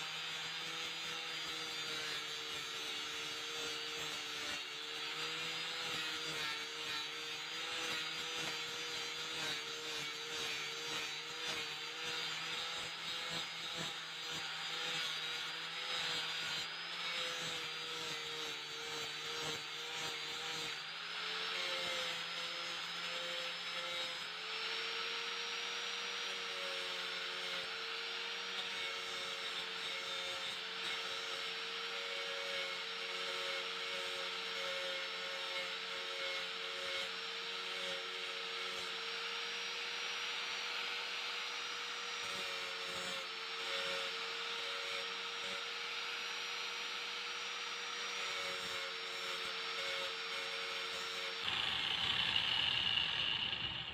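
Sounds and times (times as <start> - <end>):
angle grinder grinding wood: 0.0 - 53.9.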